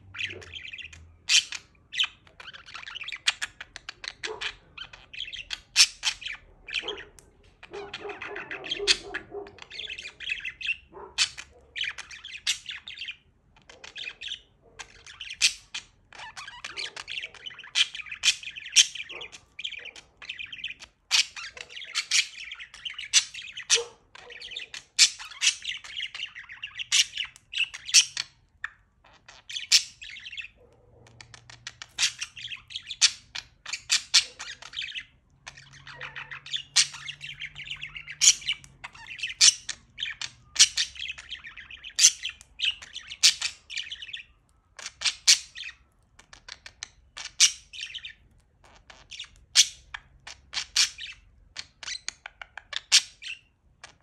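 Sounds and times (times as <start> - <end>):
budgerigar warbling: 0.0 - 28.3, 29.3 - 45.8.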